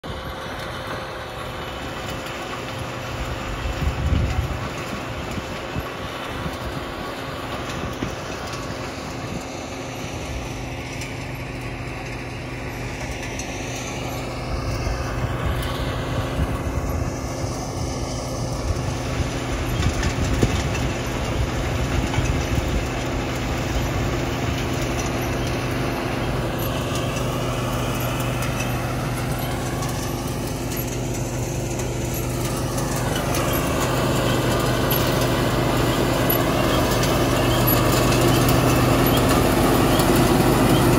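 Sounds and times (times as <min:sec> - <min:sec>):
vehicle engine rumble: 0:00.0 - 0:40.9.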